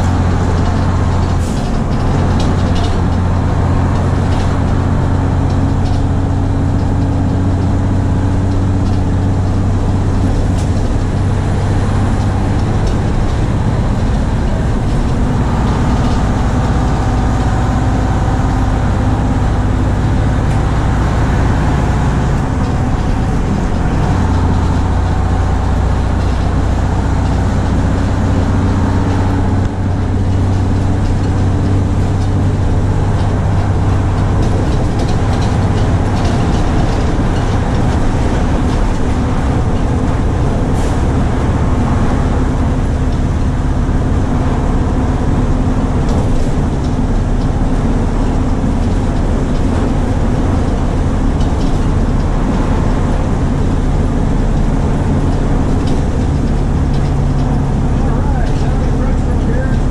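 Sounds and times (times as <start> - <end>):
bus engine drone: 0.0 - 59.9
road noise: 0.0 - 59.9.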